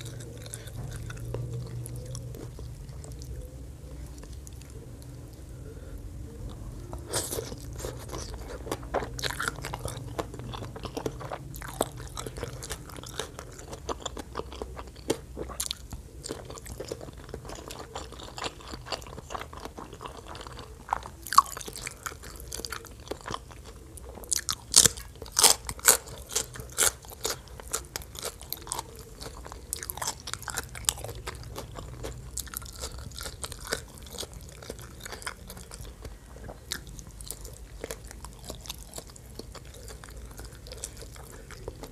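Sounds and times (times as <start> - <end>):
wet chewing: 0.0 - 41.9.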